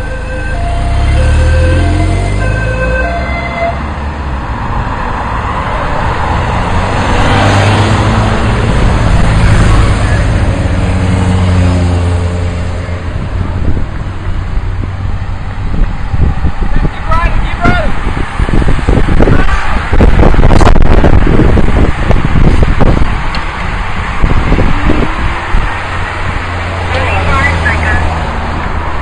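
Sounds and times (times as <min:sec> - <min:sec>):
motorcycles and cars passing: 0:00.0 - 0:29.0.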